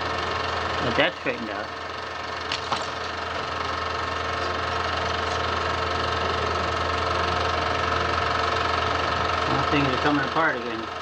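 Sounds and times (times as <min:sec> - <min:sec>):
small machine whirring: 0:00.0 - 0:11.0.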